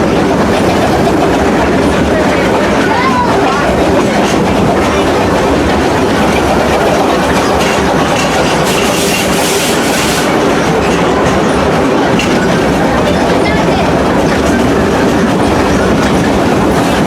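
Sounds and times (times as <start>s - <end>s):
train cars rumbling: 0.0s - 17.0s
wheels clicking over rails: 0.0s - 17.0s.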